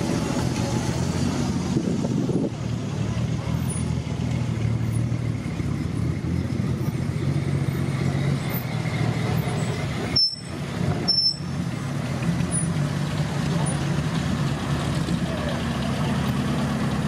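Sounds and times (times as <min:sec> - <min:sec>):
car and motorcycle engines passing: 0:00.0 - 0:17.0.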